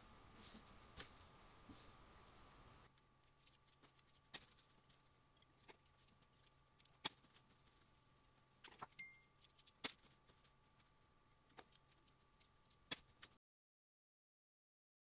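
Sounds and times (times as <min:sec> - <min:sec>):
faint steady hum: 0:00.0 - 0:13.4.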